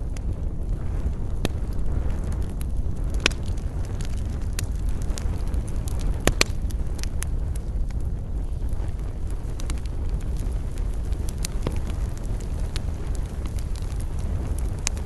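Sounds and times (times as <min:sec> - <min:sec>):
campfire crackling and popping: 0:00.0 - 0:15.0
low rumble: 0:00.0 - 0:15.0.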